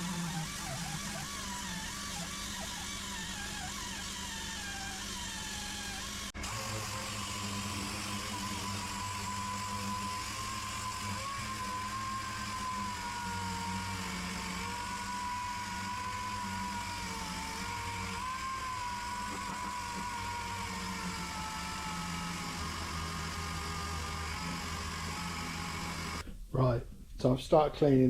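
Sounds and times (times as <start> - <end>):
power tool whining on metal: 0.0 - 26.2.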